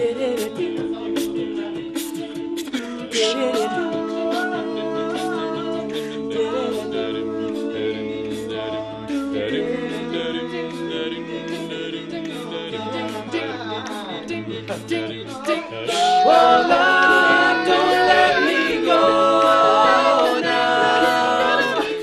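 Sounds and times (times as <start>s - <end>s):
male a cappella group singing: 0.0s - 22.0s
steady beat: 0.0s - 22.0s.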